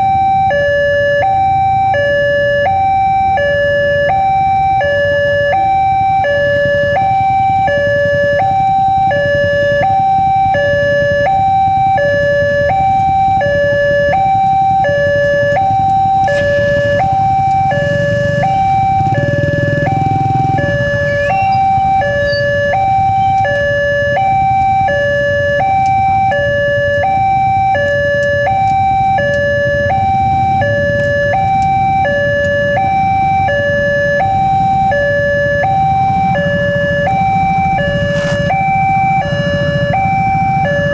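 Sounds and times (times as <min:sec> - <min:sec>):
electronic two-tone crossing alarm: 0:00.0 - 0:40.9
motorcycle engines idling: 0:00.3 - 0:40.9.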